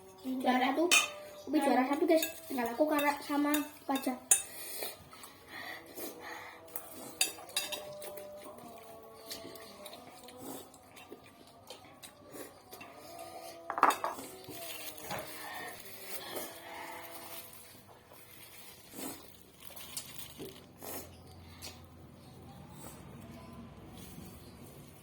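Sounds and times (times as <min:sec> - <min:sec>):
utensils clinking against a dish: 0:00.0 - 0:05.4, 0:06.0 - 0:22.3.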